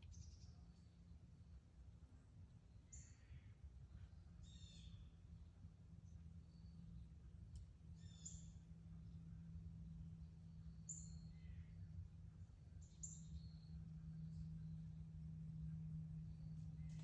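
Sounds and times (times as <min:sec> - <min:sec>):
faint songbird chirps: 0:00.0 - 0:01.5, 0:02.1 - 0:17.0
low steady hum: 0:00.0 - 0:17.0.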